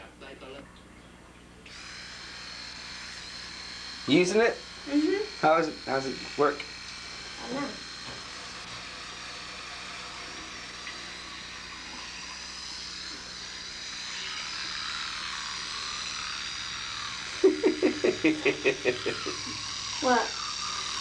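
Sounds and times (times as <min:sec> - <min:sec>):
electric toothbrush whining: 0:01.6 - 0:21.0
toothbrush pulsing: 0:01.7 - 0:21.0.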